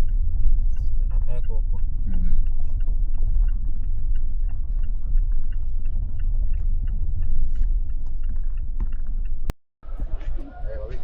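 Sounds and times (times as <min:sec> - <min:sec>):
low road rumble: 0:00.0 - 0:11.0.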